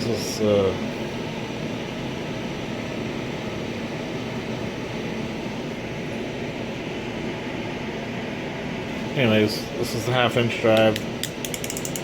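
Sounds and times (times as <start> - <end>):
mechanical noise with low hum: 0.0 - 12.0.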